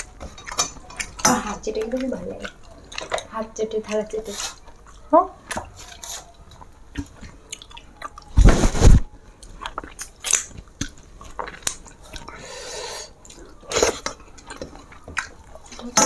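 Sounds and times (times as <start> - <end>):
chewing and smacking: 0.0 - 8.5, 9.1 - 12.5, 13.1 - 16.0.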